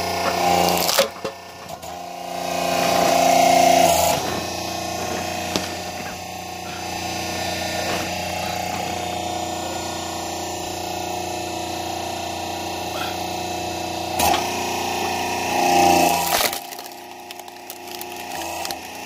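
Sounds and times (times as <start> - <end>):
hydraulic log splitter humming: 0.0 - 19.0.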